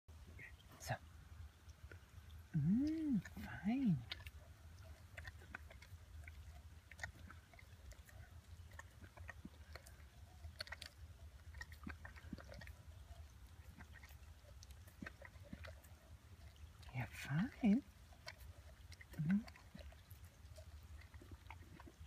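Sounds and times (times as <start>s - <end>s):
low background hum: 0.1s - 22.0s
dog licking and chewing: 0.2s - 22.0s.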